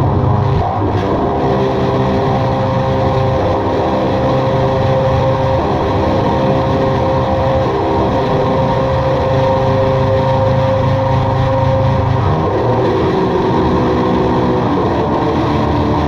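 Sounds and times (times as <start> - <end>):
low drone tones: 0.0 - 16.0.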